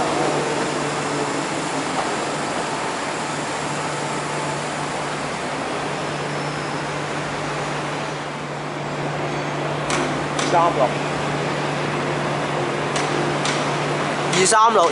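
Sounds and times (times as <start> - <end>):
train running hiss and rumble: 0.0 - 14.9.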